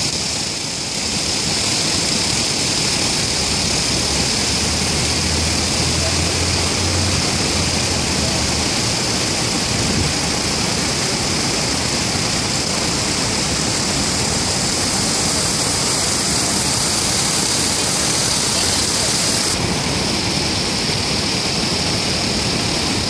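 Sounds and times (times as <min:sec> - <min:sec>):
city street hiss: 0:00.0 - 0:23.0.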